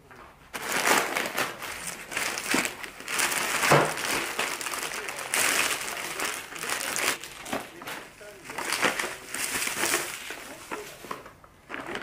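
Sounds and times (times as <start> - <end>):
packaging crinkling and rustling: 0.5 - 12.0.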